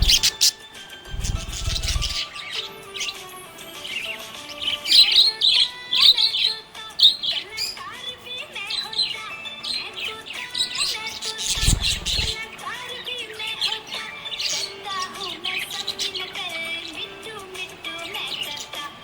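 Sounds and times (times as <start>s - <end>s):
budgerigar chirping: 0.0s - 7.9s, 8.6s - 17.2s
background music: 0.0s - 19.0s.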